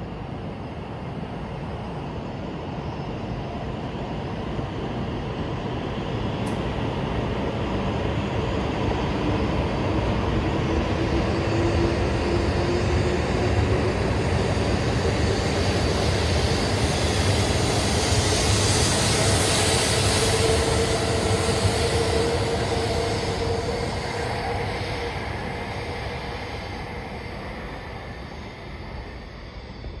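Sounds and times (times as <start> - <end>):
train running noise: 3.1 - 30.0.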